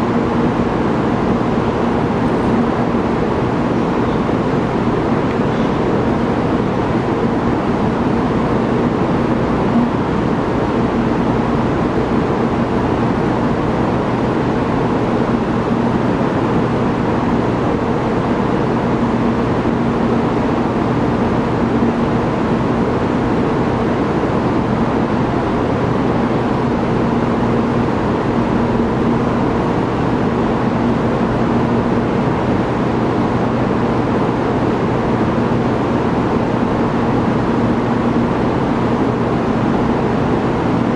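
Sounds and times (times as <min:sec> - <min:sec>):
constant droning hum: 0:00.0 - 0:40.9
station platform rumble and hiss: 0:00.0 - 0:40.9.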